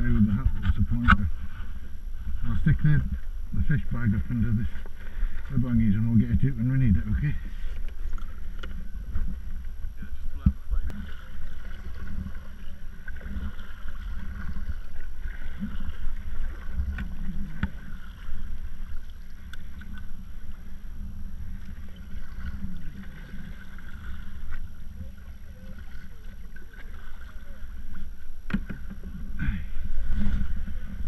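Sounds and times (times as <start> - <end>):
small outboard motor droning: 0.0 - 31.0.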